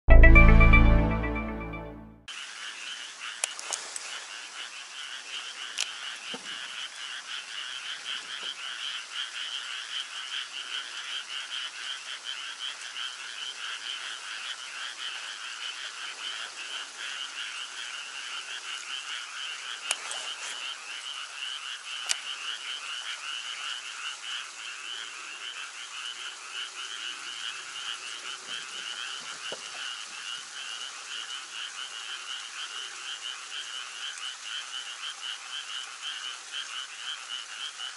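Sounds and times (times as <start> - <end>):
frogs trilling: 2.4 - 37.9.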